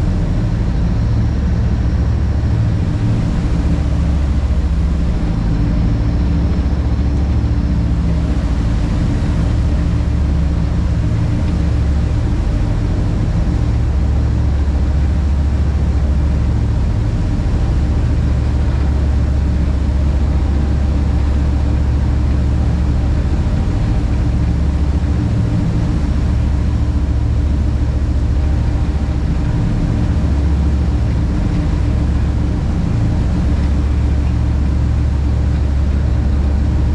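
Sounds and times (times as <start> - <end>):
boat engine drone: 0.0 - 36.9
wake water rushing: 0.0 - 36.9.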